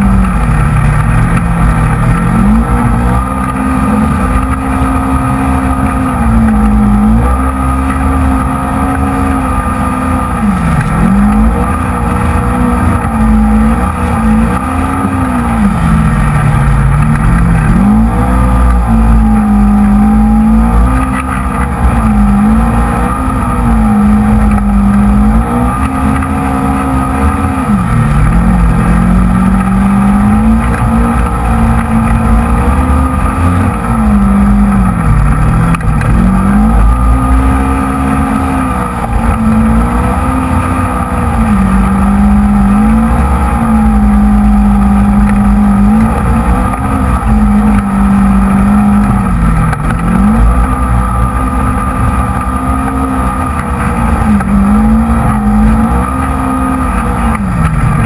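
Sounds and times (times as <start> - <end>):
continuous low rumble: 0.0 - 58.0
off-road vehicle engine revving: 0.0 - 58.0.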